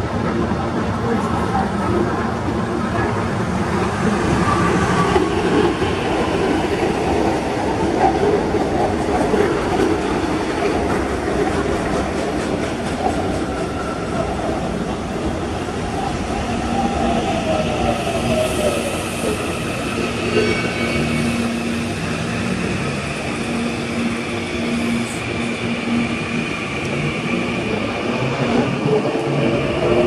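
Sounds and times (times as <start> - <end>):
rail noise: 0.0 - 30.0
train hum: 0.0 - 30.0.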